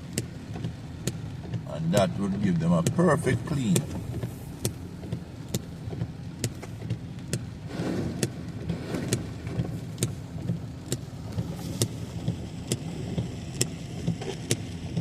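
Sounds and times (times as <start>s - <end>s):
car engine and road rumble: 0.0s - 15.0s
heavy rain on car: 0.0s - 15.0s
water splash and hiss: 0.0s - 15.0s
windscreen wipers knocking: 0.0s - 15.0s.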